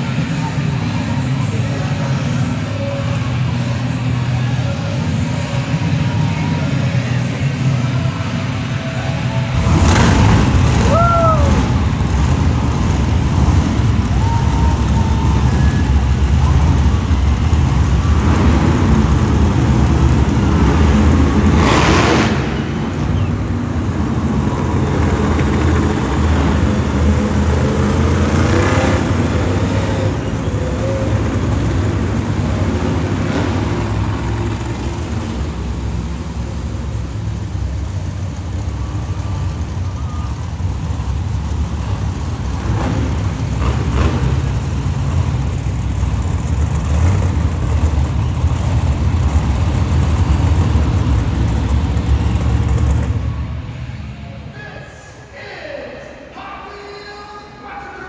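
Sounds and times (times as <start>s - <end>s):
monster truck engines rumbling: 0.0s - 55.4s.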